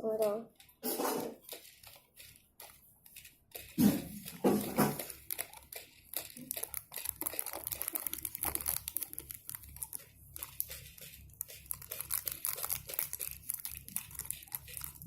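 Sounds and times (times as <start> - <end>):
plastic packets crinkling: 0.0 - 15.0.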